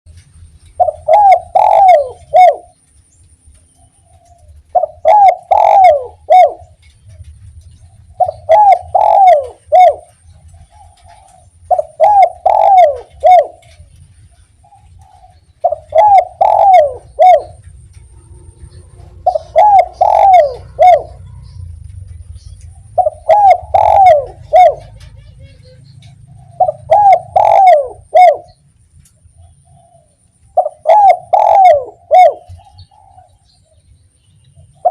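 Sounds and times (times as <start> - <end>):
dove cooing: 0.7 - 2.8, 4.0 - 6.9, 7.8 - 21.6, 22.6 - 28.6, 29.3 - 33.8, 34.7 - 34.9.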